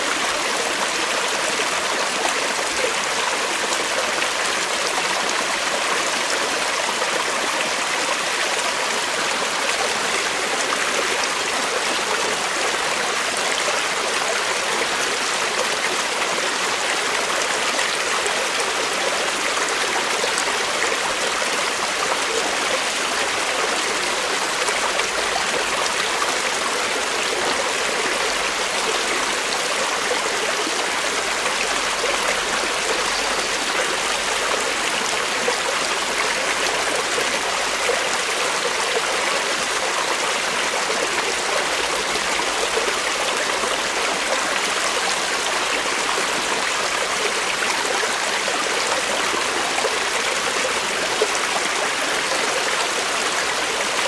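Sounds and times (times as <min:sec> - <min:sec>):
creek water flowing over rocks: 0:00.0 - 0:54.0.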